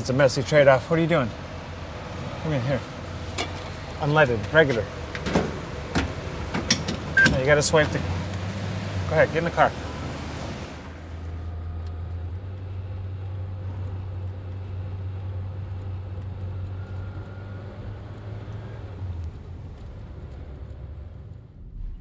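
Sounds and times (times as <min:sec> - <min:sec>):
low engine hum inside van: 0:00.0 - 0:22.0
road noise inside van: 0:00.0 - 0:22.0.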